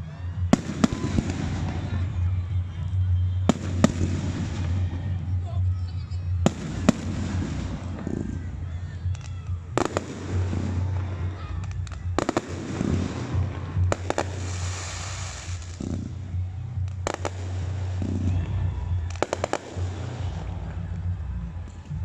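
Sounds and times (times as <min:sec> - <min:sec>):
hissing crackle of fireworks: 0:00.0 - 0:02.3, 0:03.5 - 0:21.0
fireworks bangs: 0:00.5 - 0:02.3, 0:03.5 - 0:05.4, 0:06.3 - 0:20.9.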